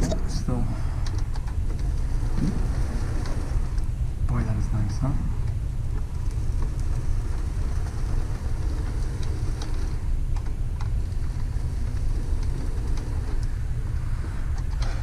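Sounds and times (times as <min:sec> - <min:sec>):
model train motor rumble: 0:00.0 - 0:04.5, 0:05.9 - 0:15.0.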